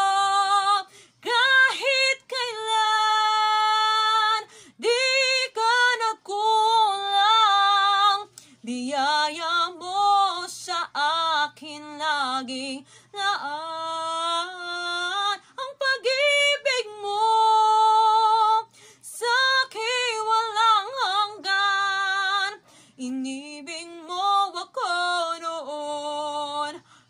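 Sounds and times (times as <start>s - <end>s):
woman singing worship song: 0.0s - 27.0s.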